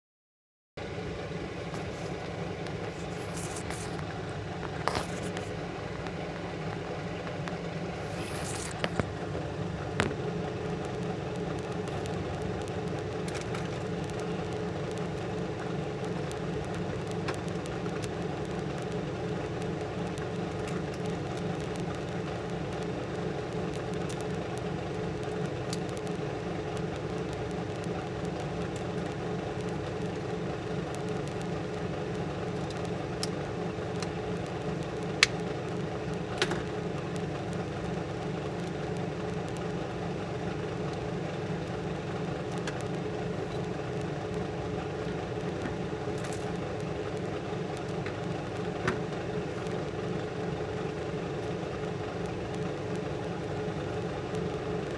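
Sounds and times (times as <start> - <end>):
air blower humming: 0.8 - 54.0.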